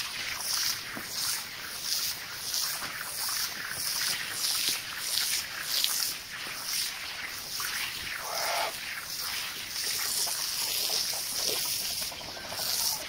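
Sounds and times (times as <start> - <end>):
water splashing on wet carpet: 0.0 - 13.0.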